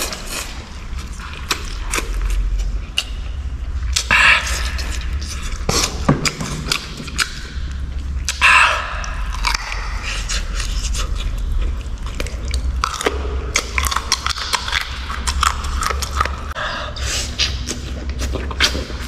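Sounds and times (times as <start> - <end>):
person chewing crunchy food: 0.0 - 19.0
steady low hum: 0.0 - 19.0.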